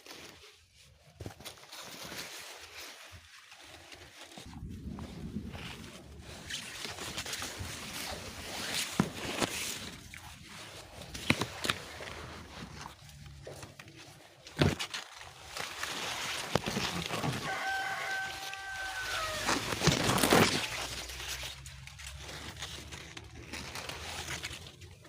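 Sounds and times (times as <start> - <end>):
rustling and handling noise: 0.0 - 25.0.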